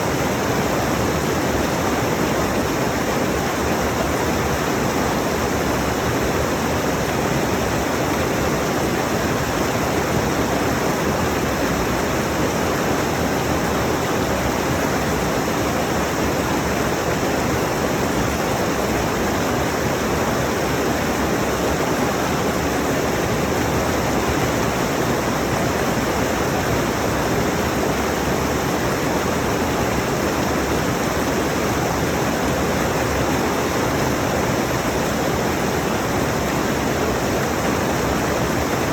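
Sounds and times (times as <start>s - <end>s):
water rushing over rocks: 0.1s - 38.9s.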